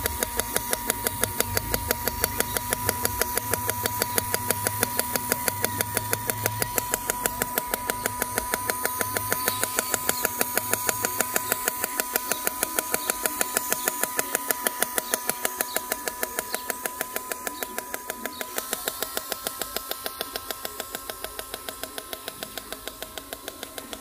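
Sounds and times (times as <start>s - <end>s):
faint steady whine: 0.0s - 24.0s
model motorcycle rapid clicking: 0.0s - 24.0s.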